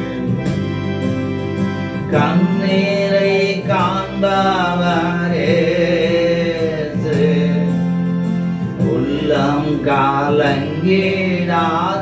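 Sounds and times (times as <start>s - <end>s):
sustained instrumental accompaniment: 0.0s - 12.0s
person singing: 1.7s - 7.8s, 8.4s - 12.0s.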